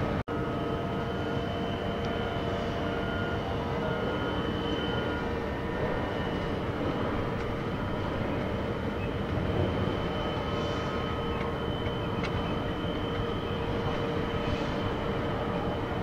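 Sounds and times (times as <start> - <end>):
diesel machinery droning: 0.0 - 16.0
thin steady whine: 0.0 - 16.0.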